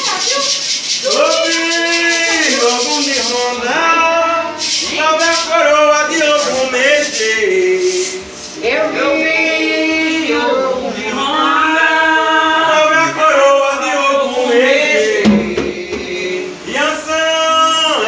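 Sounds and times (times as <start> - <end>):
person chanting slowly: 1.0 - 16.7.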